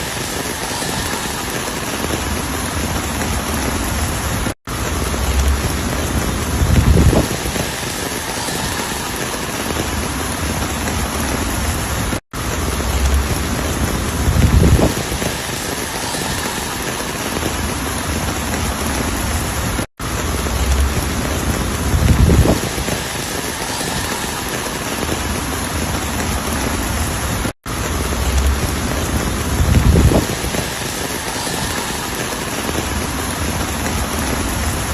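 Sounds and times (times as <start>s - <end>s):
heavy rain hissing: 0.0s - 34.9s.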